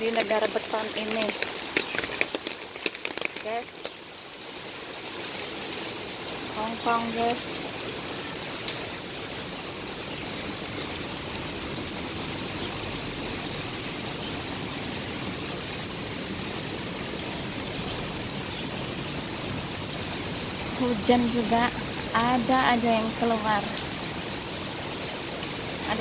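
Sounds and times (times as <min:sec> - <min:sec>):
heavy rain on paving: 0:00.0 - 0:26.0
running water: 0:00.0 - 0:26.0.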